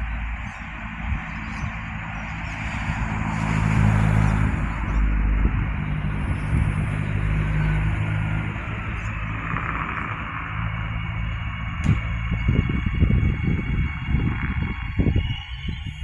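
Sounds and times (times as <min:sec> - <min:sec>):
electric train hum: 0:00.0 - 0:16.0
train wheels rumbling on rails: 0:00.0 - 0:16.0.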